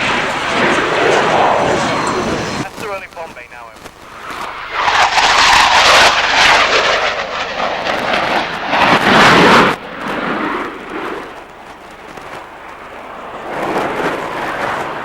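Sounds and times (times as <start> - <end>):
jet aircraft low fast pass: 0.0 - 15.0.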